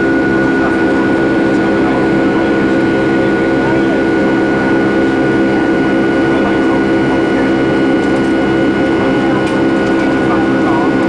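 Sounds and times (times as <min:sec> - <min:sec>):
high engine whine: 0:00.0 - 0:11.0
jet engines droning in cabin: 0:00.0 - 0:11.0.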